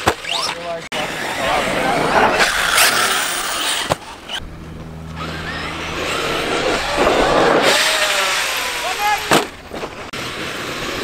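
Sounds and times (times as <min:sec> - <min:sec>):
rc truck motors whining: 0:00.0 - 0:11.0
rc truck revving hard: 0:00.0 - 0:11.0
tyres on dirt: 0:00.0 - 0:11.0.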